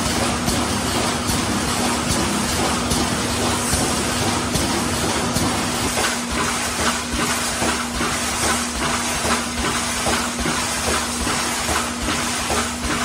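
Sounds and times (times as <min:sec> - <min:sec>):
welding machine clatter and hiss: 0:00.0 - 0:13.0.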